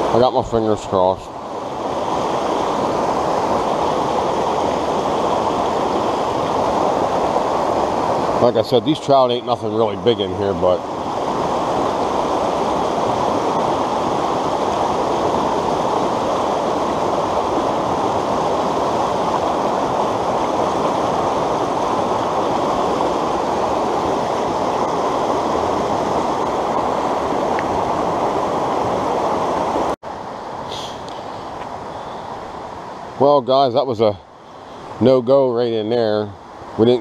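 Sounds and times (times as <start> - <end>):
creek water rushing over rocks: 0.0 - 37.0.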